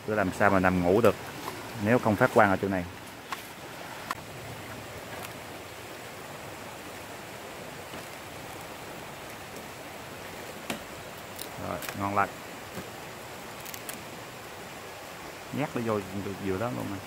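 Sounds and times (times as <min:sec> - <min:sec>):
stream flowing over stones: 0:00.0 - 0:17.0.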